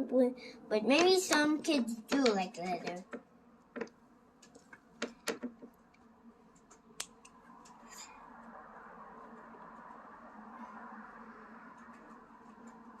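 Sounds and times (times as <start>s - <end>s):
faint steady noise: 0.0s - 13.0s.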